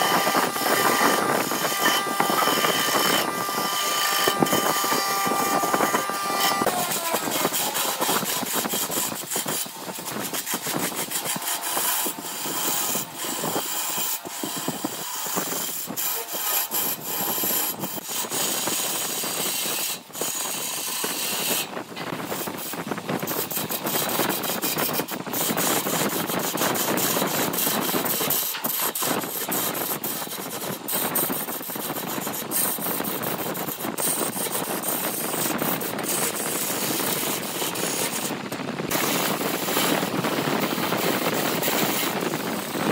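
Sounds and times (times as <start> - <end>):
lathe gouge rasping scrape: 0.0 - 42.9.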